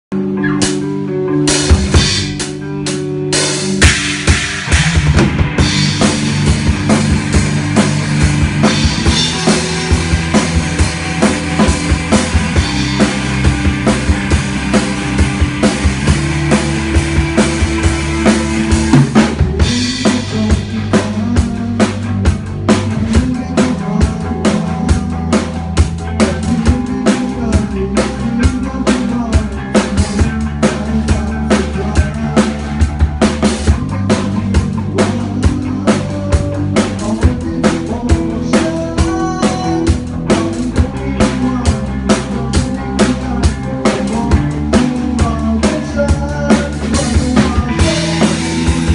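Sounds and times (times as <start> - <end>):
bass and guitar: 0.1 - 48.9
drum kit beat: 0.2 - 48.9.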